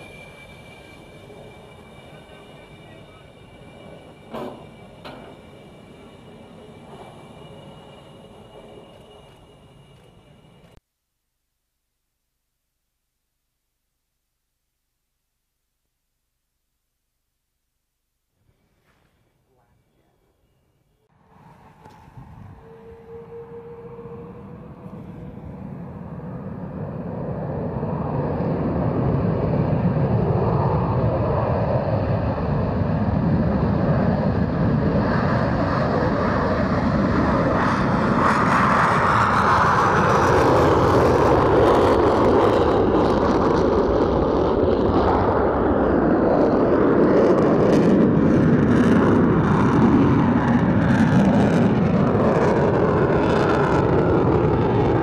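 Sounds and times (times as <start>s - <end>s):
jet engine roar: 0.0s - 10.8s, 21.1s - 55.0s.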